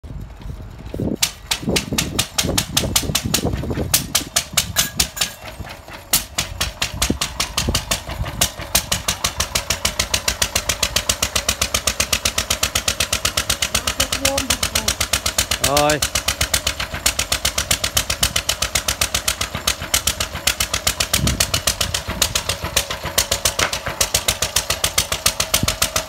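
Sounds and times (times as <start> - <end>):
single-cylinder engine running: 0.0 - 26.0.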